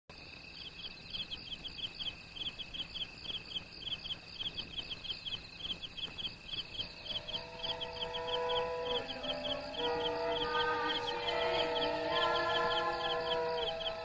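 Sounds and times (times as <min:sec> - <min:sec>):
crickets chirping: 0:00.1 - 0:14.0
high-pitched insect trill: 0:00.4 - 0:14.0.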